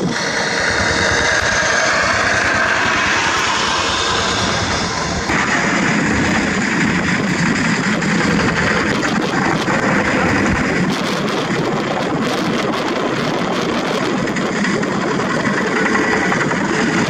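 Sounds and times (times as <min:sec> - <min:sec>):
diesel engines clattering: 0:00.0 - 0:17.0.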